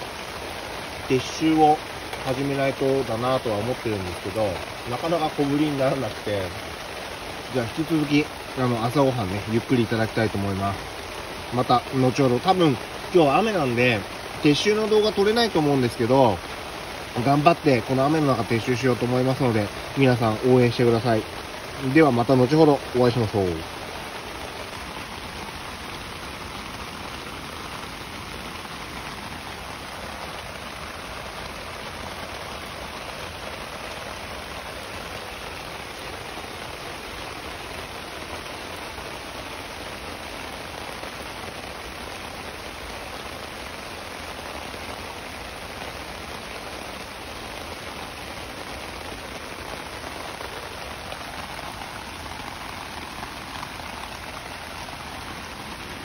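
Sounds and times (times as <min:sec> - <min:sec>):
heavy rain splashing on gravel: 0:00.0 - 0:56.0.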